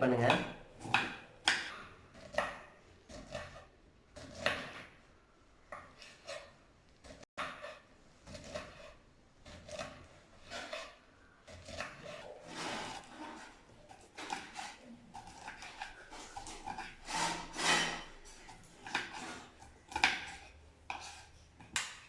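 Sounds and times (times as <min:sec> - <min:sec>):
knife chopping vegetables: 0:00.0 - 0:05.0, 0:05.7 - 0:22.0.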